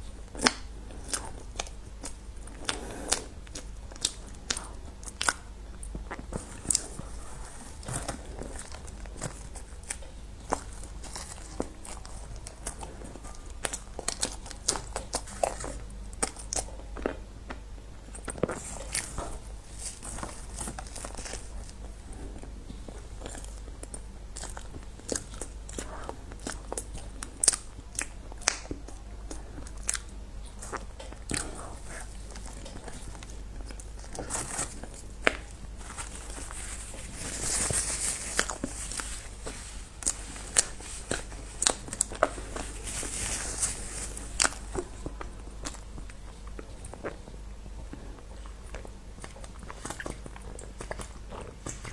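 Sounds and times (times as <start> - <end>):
crunchy bites and chewing: 0.3 - 51.9.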